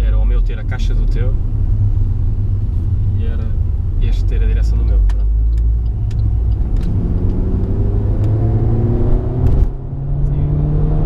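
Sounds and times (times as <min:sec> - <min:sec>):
car engine accelerating: 0:00.8 - 0:11.0.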